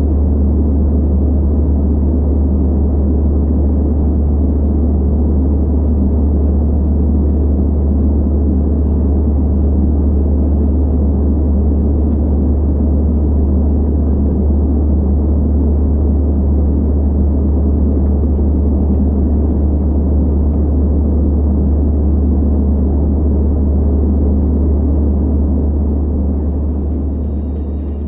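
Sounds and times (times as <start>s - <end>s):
airplane cabin engine drone: 0.0s - 28.0s.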